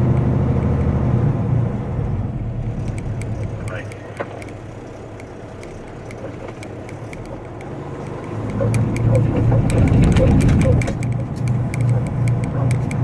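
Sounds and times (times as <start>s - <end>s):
diesel truck engine running: 0.0s - 13.0s
light regular ticking: 2.4s - 13.0s.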